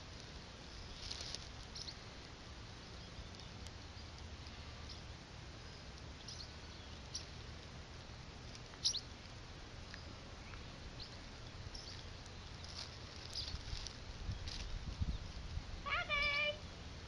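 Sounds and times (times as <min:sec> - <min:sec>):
low hiss and rumble: 0:00.0 - 0:17.0.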